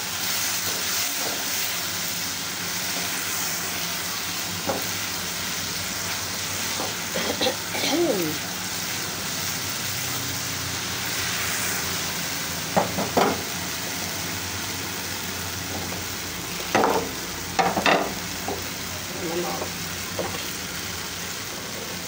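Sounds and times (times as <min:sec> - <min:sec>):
onion masala sizzling in a pan: 0:00.0 - 0:22.0.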